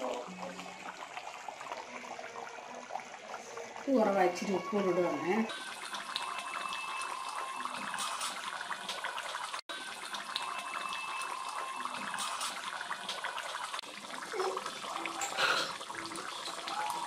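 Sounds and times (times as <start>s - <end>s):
curry boiling and bubbling: 0.0s - 17.0s.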